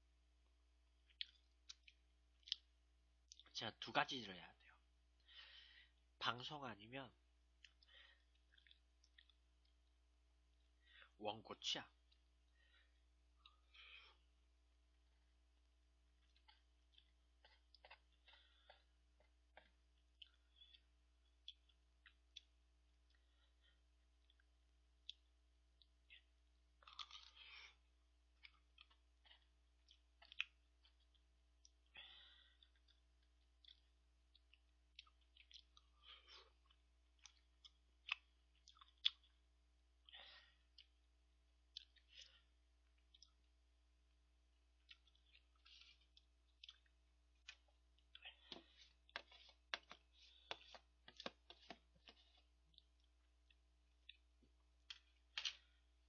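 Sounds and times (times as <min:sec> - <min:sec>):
soft chewing: 0:00.4 - 0:03.6, 0:07.4 - 0:11.2, 0:11.9 - 0:56.0.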